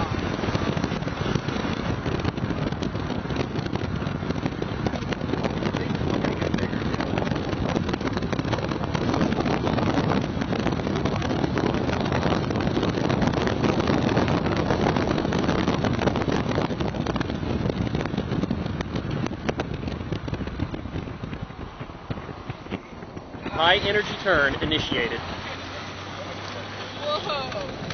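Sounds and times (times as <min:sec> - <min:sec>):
vehicle driving rumble: 0:00.0 - 0:27.9
wind rushing across microphone: 0:00.0 - 0:27.9.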